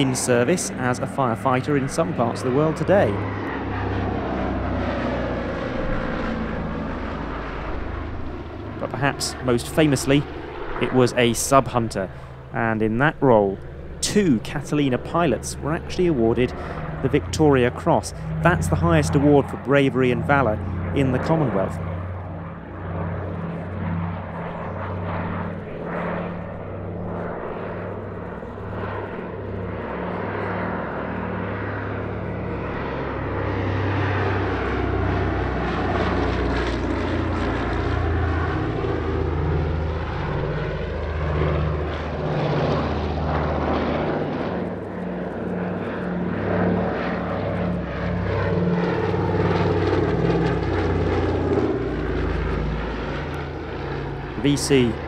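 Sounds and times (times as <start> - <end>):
propeller aircraft engines droning: 0.0 - 55.0.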